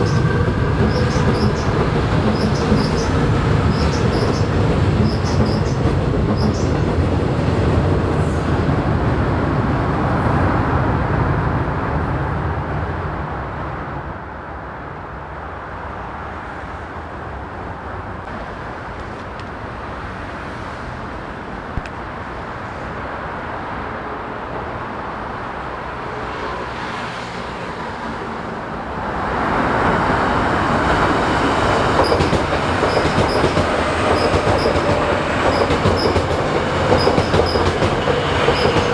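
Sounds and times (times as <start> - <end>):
low train rumble: 0.0 - 38.9
train passing: 0.0 - 38.9.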